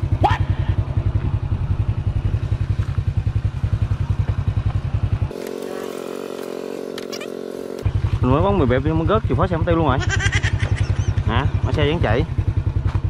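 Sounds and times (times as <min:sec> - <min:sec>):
motorbike engine throbbing: 0:00.0 - 0:13.0.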